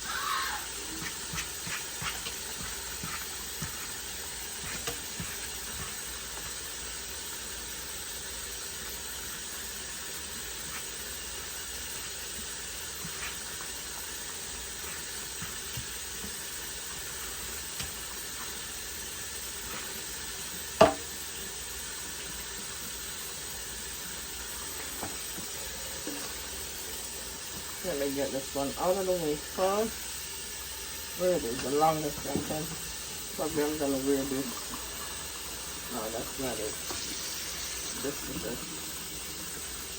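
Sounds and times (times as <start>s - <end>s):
running water in sink: 0.0s - 39.9s.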